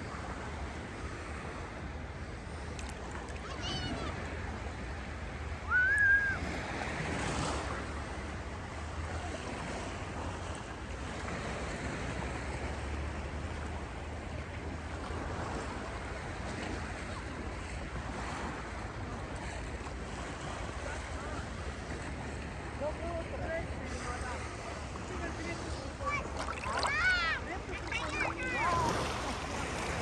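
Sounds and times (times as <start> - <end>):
sea waves washing on shore: 0.0 - 30.0.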